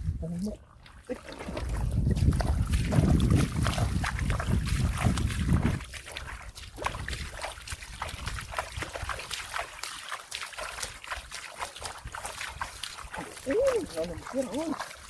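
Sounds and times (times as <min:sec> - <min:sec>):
splashing in muddy water: 0:00.0 - 0:15.0.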